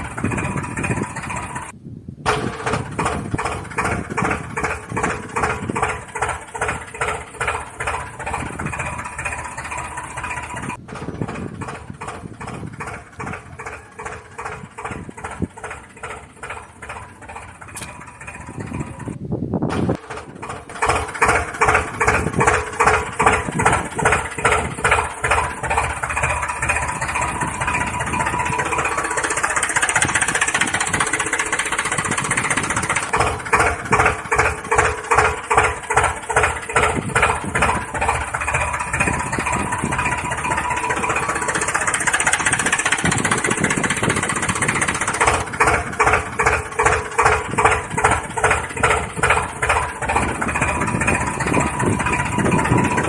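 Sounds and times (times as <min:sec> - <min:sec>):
small engine chugging: 0:00.0 - 0:53.0.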